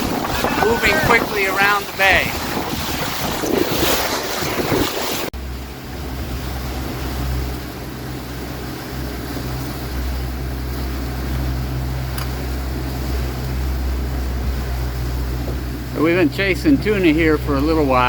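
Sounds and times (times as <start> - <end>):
boat engine humming: 0.0 - 18.0
wind and water noise: 0.0 - 18.0
wind buffeting microphone: 0.0 - 18.0.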